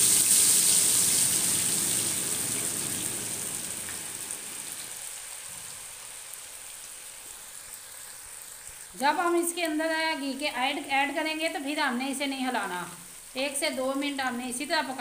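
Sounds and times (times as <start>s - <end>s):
potato fries sizzling in hot oil: 0.0s - 15.0s.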